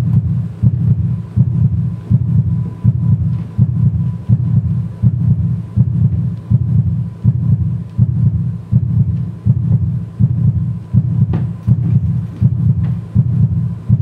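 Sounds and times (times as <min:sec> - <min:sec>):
deep heartbeat-like thuds: 0:00.0 - 0:14.0.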